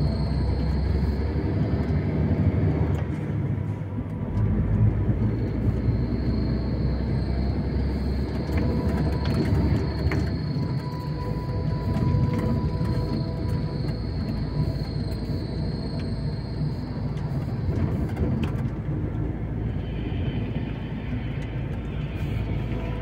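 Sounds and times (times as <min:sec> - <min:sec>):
truck engine and road rumble: 0:00.0 - 0:23.0
thin high whine: 0:03.1 - 0:18.6, 0:19.4 - 0:23.0.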